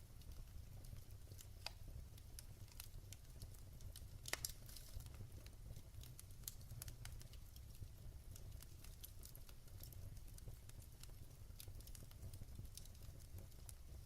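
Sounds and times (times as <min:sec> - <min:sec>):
low steady fire rumble: 0:00.0 - 0:14.0
wood fire crackling: 0:00.0 - 0:14.0.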